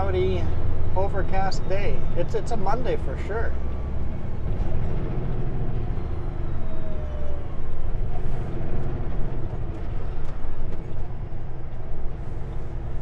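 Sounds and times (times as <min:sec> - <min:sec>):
road noise: 0:00.0 - 0:13.0
truck diesel engine rumbling: 0:00.0 - 0:13.0.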